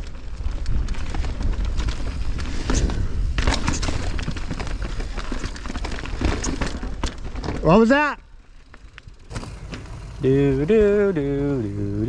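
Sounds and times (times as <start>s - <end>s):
mountain bike rattling: 0.0s - 12.0s.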